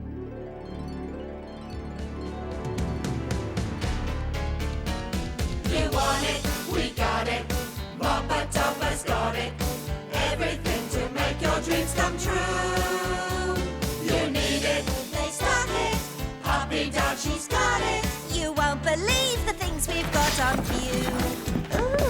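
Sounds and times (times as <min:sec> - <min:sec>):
upbeat children's theme tune: 0:00.2 - 0:22.0.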